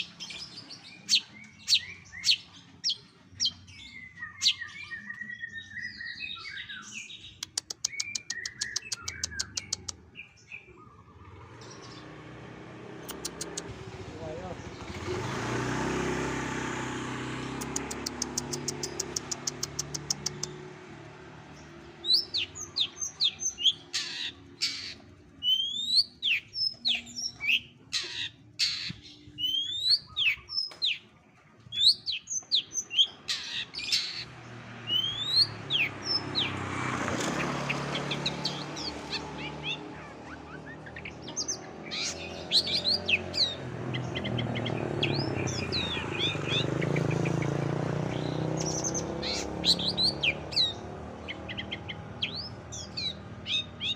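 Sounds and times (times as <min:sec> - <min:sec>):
bird singing chirps and whistles: 0:00.0 - 0:12.2, 0:21.6 - 0:31.1, 0:31.7 - 0:36.6, 0:37.3 - 0:53.9.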